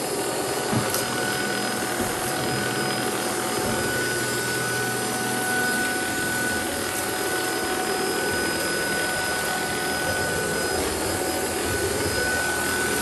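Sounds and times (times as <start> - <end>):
stick vacuum running: 0.0 - 13.0.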